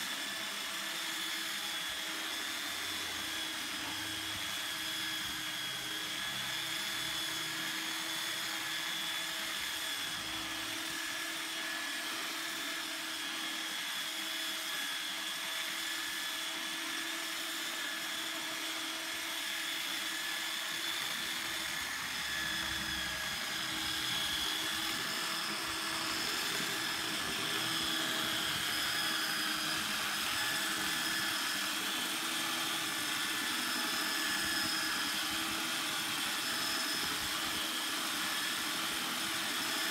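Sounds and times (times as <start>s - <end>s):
power sander on wood: 0.0s - 39.9s.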